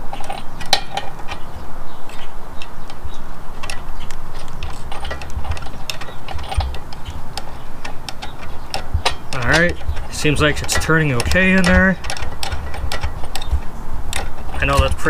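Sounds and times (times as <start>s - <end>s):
small metallic clicks and ticks: 0.0s - 15.0s.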